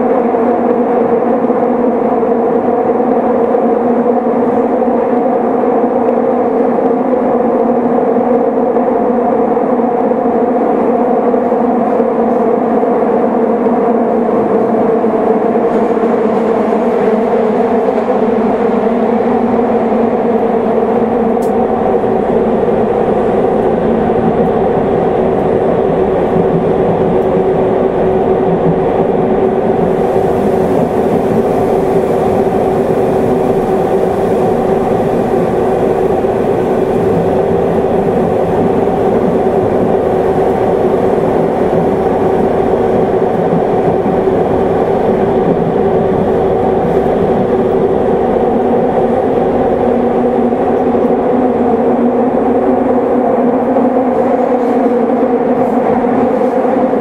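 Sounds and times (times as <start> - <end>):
steady hum: 0.0 - 57.0
subway train wheels rumbling: 0.0 - 57.0.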